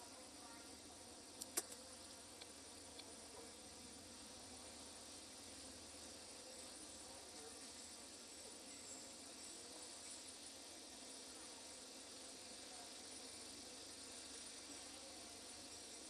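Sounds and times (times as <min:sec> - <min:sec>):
even background hiss: 0:00.0 - 0:16.0
insects buzzing: 0:00.0 - 0:16.0.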